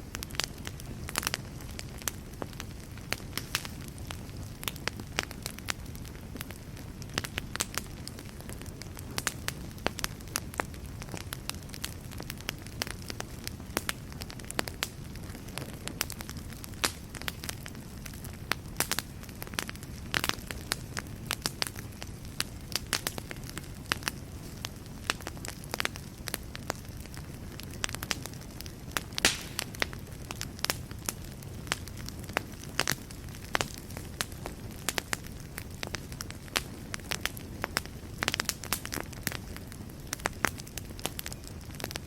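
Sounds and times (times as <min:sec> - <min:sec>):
fire crackles and pops: 0:00.0 - 0:42.0
wood fire rumbling: 0:00.0 - 0:42.0.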